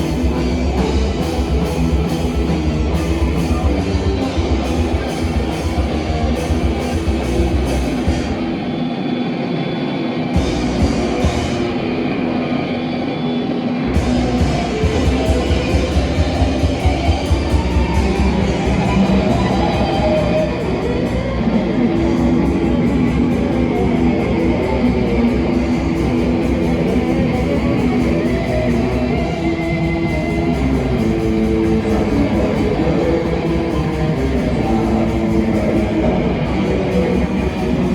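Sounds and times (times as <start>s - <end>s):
heavy pounding low beat: 0.0s - 8.9s, 10.4s - 12.9s, 13.9s - 37.9s
live rock band playing: 0.0s - 37.9s.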